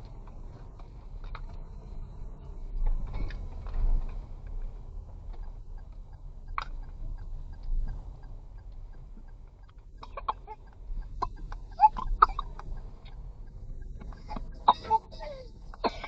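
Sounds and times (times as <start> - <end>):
vehicle engine rumble: 0.0 - 16.0
wind: 0.0 - 16.0.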